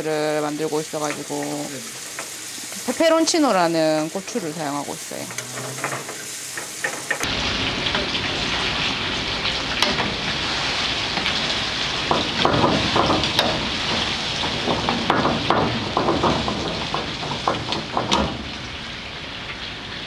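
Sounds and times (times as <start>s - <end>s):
shrimp sizzling in oil: 0.0s - 20.0s.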